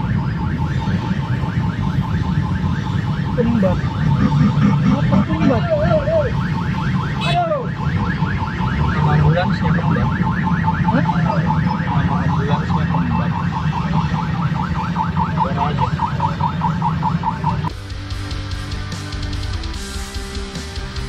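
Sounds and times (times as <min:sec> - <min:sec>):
ambulance siren yelping: 0:00.0 - 0:17.8
low rumble of traffic engines: 0:00.0 - 0:21.0.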